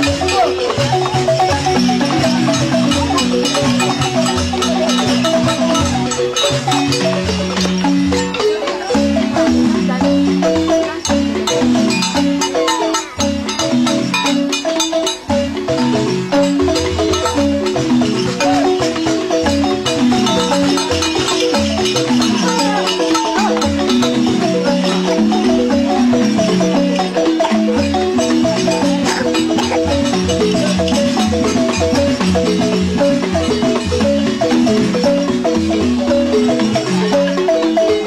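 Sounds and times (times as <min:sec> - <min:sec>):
sharp percussion strokes: 0:00.0 - 0:38.0
wooden xylophones playing: 0:00.0 - 0:38.0.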